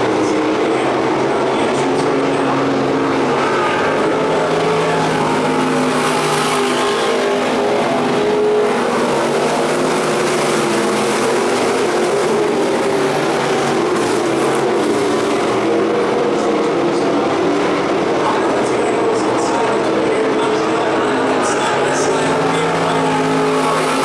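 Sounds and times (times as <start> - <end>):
stock cars racing: 0.0 - 24.0.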